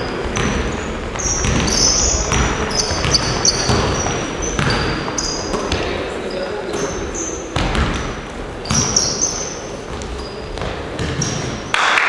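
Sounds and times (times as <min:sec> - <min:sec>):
sneakers squeaking on court: 0:00.0 - 0:11.7
basketballs bouncing on gym floor: 0:00.0 - 0:11.8.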